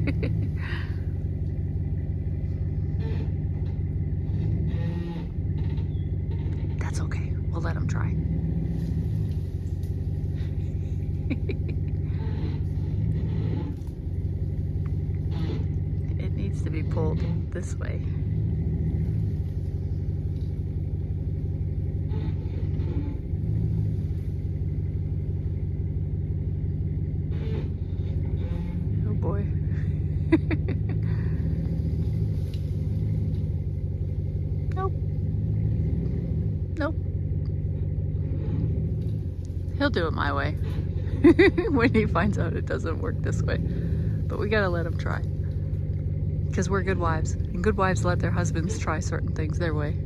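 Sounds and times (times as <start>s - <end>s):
vehicle engine low rumble: 0.0s - 50.0s.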